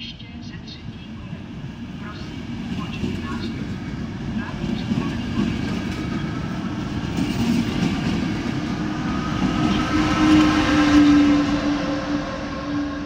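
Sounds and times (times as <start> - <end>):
locomotive hum: 0.0 - 13.0
train wheels rolling on rails: 0.6 - 13.0.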